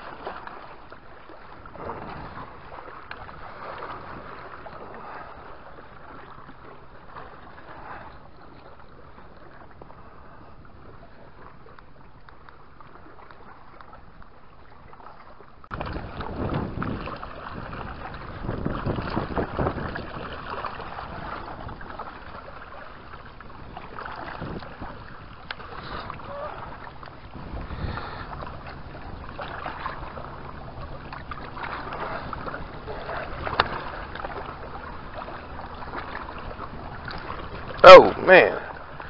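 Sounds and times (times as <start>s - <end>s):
small waves lapping on rocks: 0.0s - 10.2s, 10.8s - 39.0s
wind buffeting microphone: 1.5s - 12.2s, 15.7s - 39.0s.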